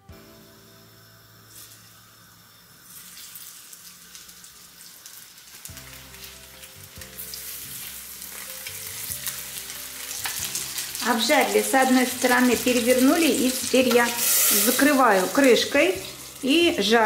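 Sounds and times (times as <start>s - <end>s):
fish sizzling in hot oil: 0.4s - 17.0s.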